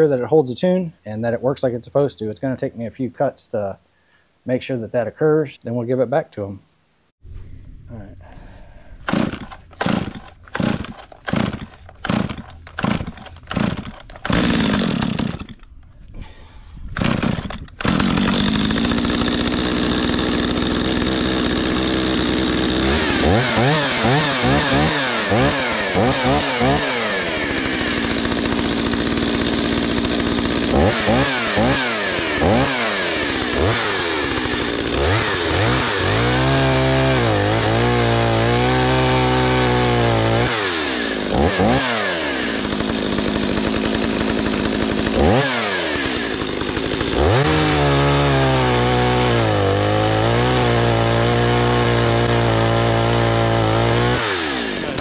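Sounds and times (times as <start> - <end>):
chainsaw cutting log: 8.4 - 55.0
chainsaw revving: 9.0 - 15.7, 17.0 - 55.0.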